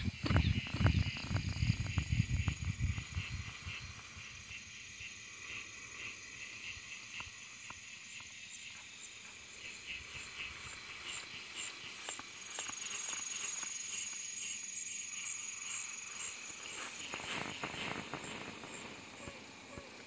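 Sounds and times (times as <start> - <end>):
high steady insect trill: 0.0 - 20.0
night insects chirping: 0.0 - 20.0.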